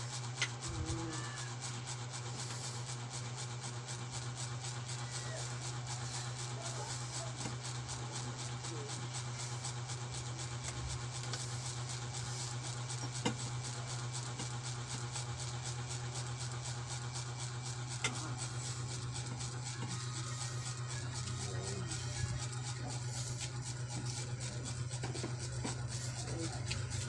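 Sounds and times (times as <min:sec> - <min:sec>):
low hum with flutter: 0:00.0 - 0:27.0.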